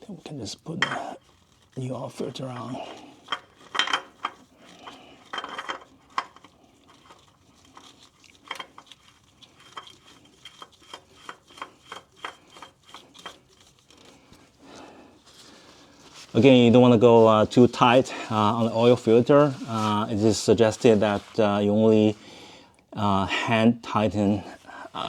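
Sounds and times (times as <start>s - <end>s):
light knocks and scrapes: 0.6s - 22.1s.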